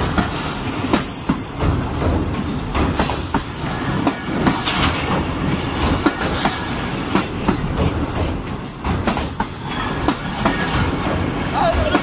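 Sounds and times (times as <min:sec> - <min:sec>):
steady train rumble: 0:00.0 - 0:12.0
wheels clattering over rail joints: 0:00.0 - 0:12.0.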